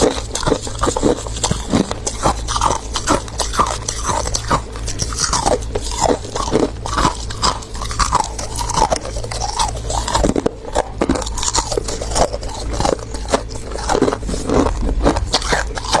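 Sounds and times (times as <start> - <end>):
chewing icy frost crunching: 0.0 - 16.0
low hum: 0.0 - 16.0.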